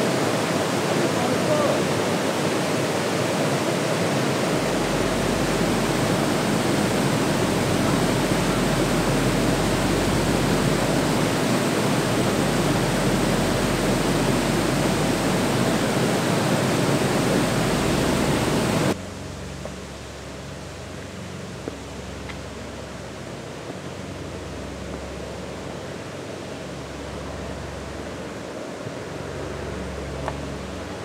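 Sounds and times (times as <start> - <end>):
whitewater rushing: 0.0 - 19.4, 20.0 - 31.0.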